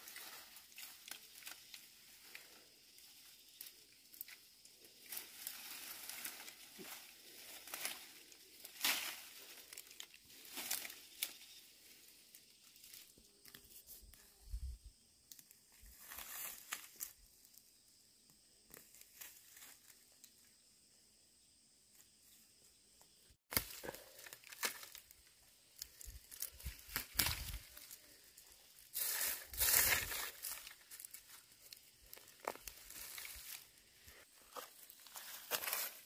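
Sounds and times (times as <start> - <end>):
dry grass and leaves rustling: 0.0 - 20.6, 21.9 - 36.0.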